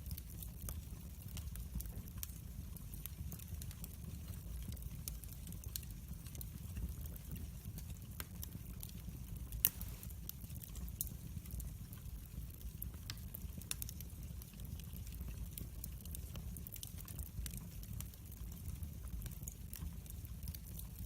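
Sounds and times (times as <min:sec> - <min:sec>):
fire crackles and pops: 0:00.0 - 0:21.0
low rumble of flames: 0:00.0 - 0:21.0.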